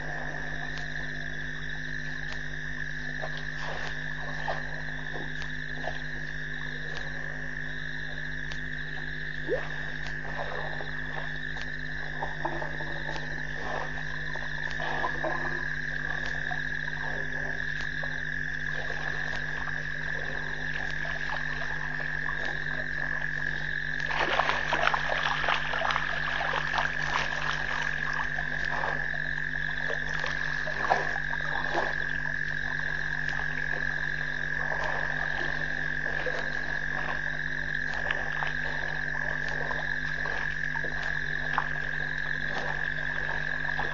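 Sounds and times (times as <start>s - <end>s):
frogs calling: 0.0s - 43.9s
low electrical hum: 0.0s - 43.9s.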